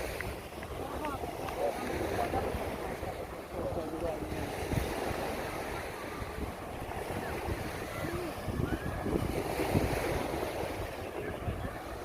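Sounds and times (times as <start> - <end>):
sea waves washing on beach: 0.0 - 12.0
wind buffeting microphone: 0.0 - 12.0.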